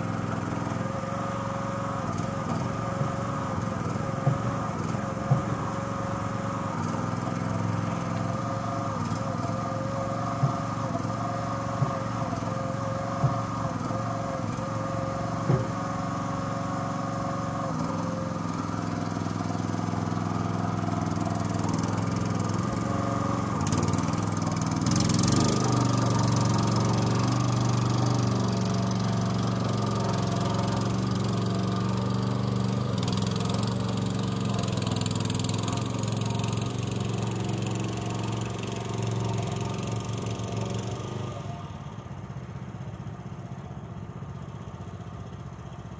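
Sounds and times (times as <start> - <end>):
dumper engine running: 0.0 - 45.9.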